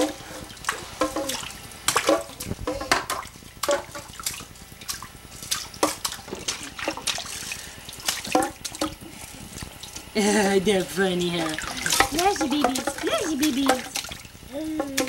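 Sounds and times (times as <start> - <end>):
bathwater splashing: 0.0 - 15.0.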